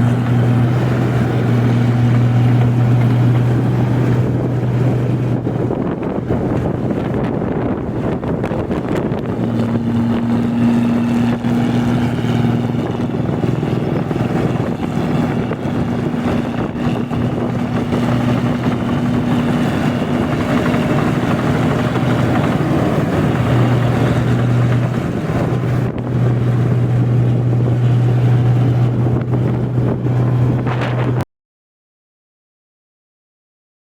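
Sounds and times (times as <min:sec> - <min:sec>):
combine harvester engine hum: 0:00.0 - 0:31.2
wind buffeting microphone: 0:00.0 - 0:31.2
working machinery noise: 0:00.0 - 0:31.2.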